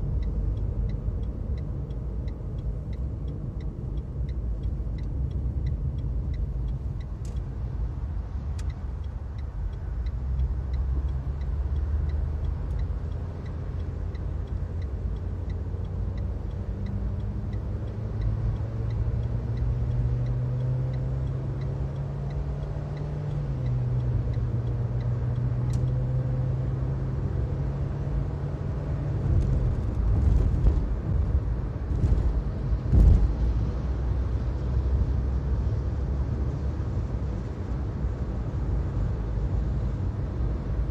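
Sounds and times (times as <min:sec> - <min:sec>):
car interior road noise: 0:00.0 - 0:40.9.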